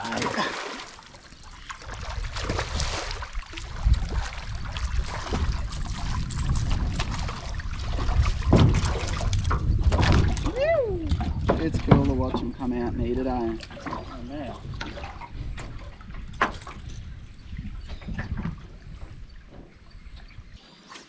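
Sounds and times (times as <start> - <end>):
water lapping around a boat: 0.0 - 21.0
wind rumble on microphone: 1.4 - 20.6.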